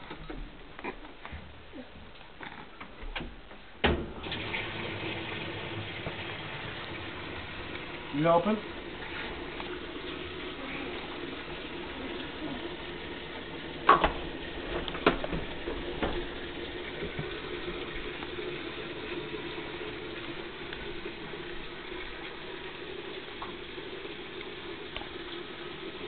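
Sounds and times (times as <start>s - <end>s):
washing machine running: 3.8s - 26.0s
water rushing in: 4.1s - 26.0s.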